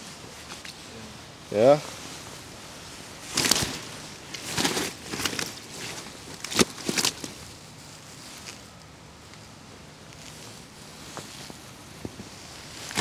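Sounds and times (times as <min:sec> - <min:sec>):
low background noise: 0:00.0 - 0:13.0
rustling handling noises: 0:00.0 - 0:13.0.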